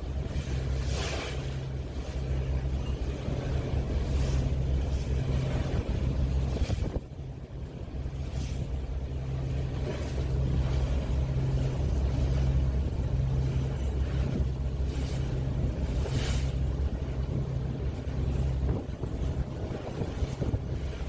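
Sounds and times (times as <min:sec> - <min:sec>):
ship engines droning: 0:00.0 - 0:21.0
wind gusting on microphone: 0:00.0 - 0:21.0.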